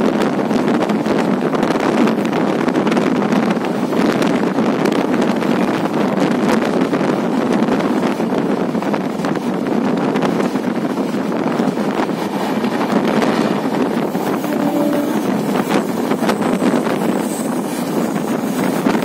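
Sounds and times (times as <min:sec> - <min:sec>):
train running on track: 0:00.0 - 0:19.0
wind noise on microphone: 0:00.0 - 0:19.0.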